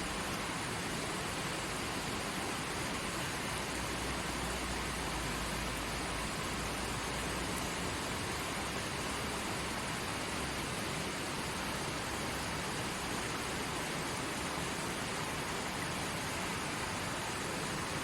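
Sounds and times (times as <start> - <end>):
creek water flowing over rocks: 0.0 - 18.0.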